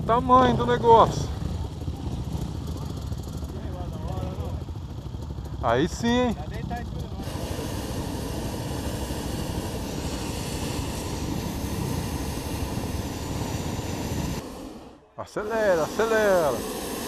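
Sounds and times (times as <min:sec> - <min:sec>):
propane burner roaring: 0:00.0 - 0:17.0.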